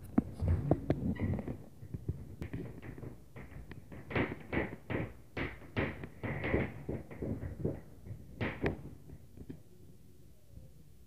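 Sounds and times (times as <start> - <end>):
banging on ceiling: 0.0 - 9.4.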